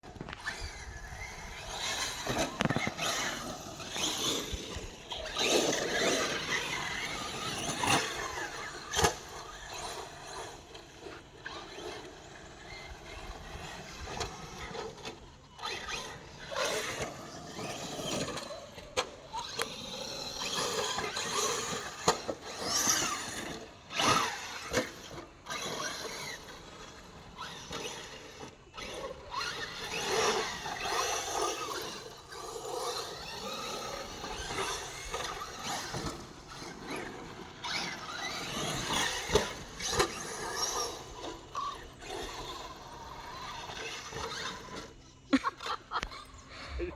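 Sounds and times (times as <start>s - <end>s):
electric motors whining: 0.0s - 46.9s.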